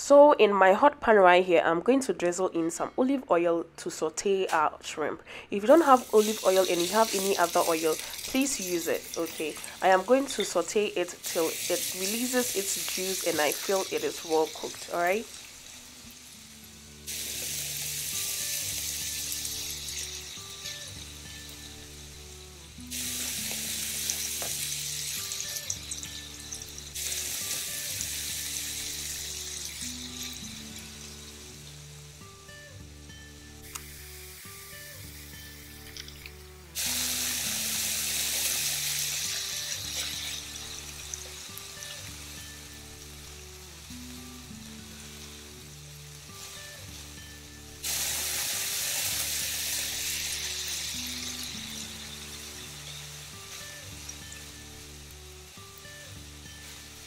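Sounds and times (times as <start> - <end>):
soft background music: 0.0 - 57.0
shrimp sizzling in oil: 5.8 - 57.0.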